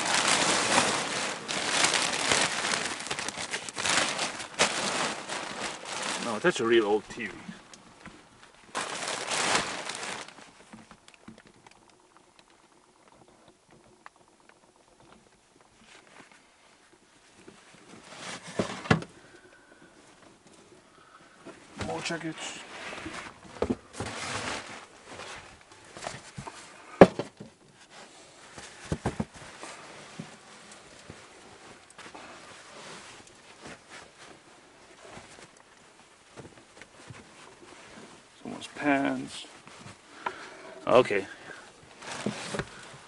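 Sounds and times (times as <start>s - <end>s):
rustling and crinkling: 0.0s - 43.0s.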